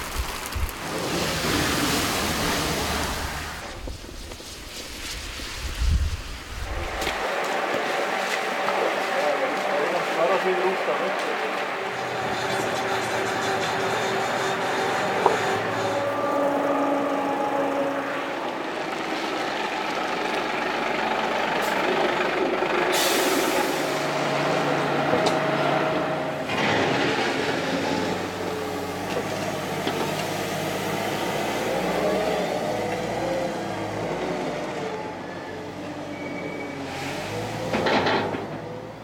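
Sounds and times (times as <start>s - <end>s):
wheel loader engine: 6.4s - 39.0s
diesel engines running: 6.6s - 39.0s.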